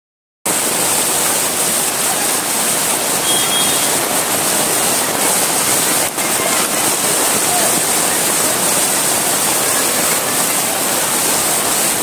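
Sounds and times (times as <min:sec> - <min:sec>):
heavy rain on a flooded street: 0:00.5 - 0:12.0.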